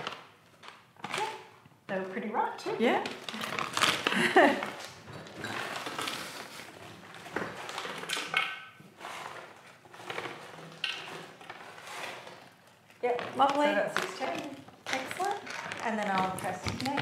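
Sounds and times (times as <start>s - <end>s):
frozen berries clattering into metal bowl: 2.8s - 17.0s.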